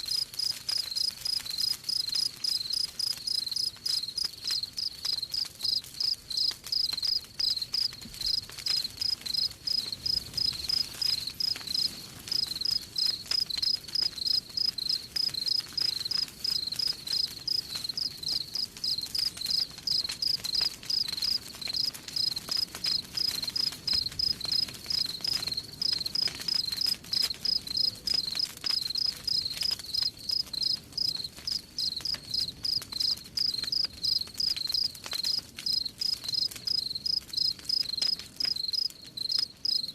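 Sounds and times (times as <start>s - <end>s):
campfire crackling: 0.0s - 39.9s
crickets chirping: 0.4s - 21.1s, 21.7s - 22.6s, 23.2s - 25.2s, 25.8s - 39.9s.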